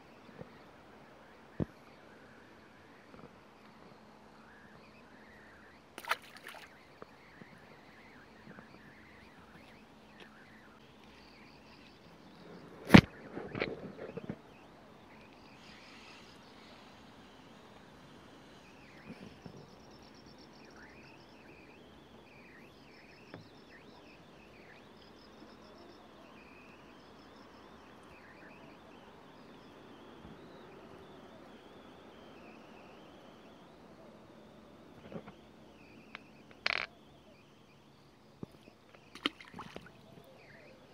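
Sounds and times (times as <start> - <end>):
birds chirping: 0.0 - 40.9
insects trilling: 0.0 - 40.9.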